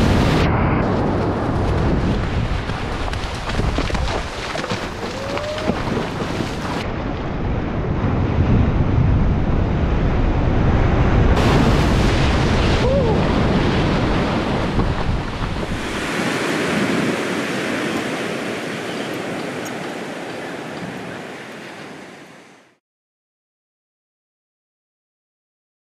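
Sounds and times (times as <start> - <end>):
wind buffeting microphone: 0.0 - 22.6
surf rushing over sand: 0.0 - 22.8.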